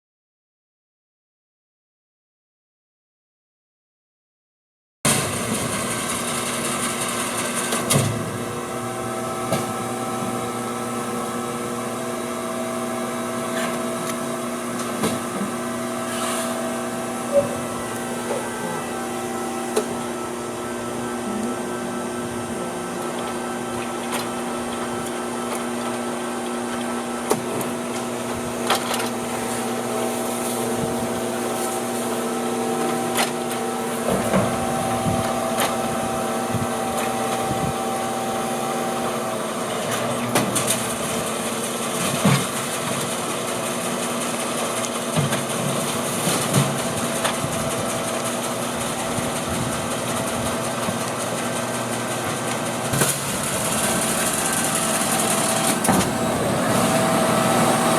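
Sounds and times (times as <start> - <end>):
washing machine motor hum: 5.1 - 57.9.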